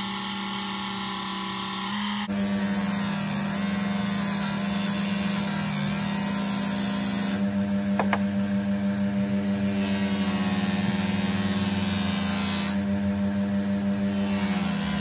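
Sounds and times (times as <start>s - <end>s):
bench grinder motor hum: 0.0s - 15.0s.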